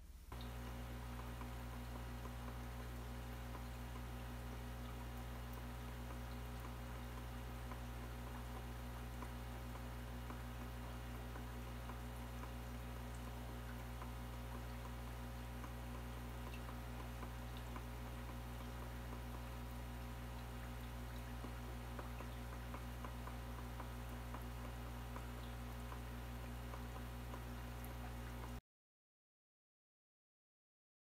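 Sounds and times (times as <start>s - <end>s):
aquarium sponge filter hum: 0.0s - 28.6s
faint ticks and drips: 0.2s - 28.6s.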